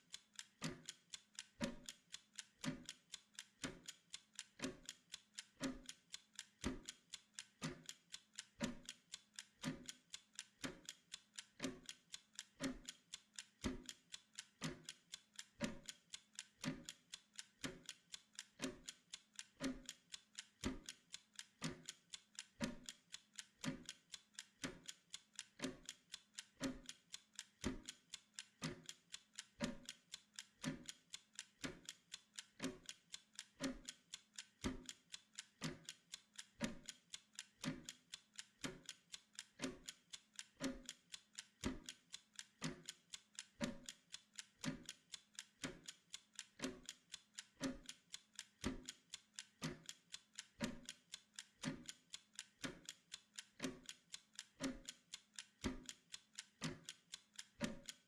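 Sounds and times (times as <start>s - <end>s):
mechanical clock ticking: 0.0s - 58.0s.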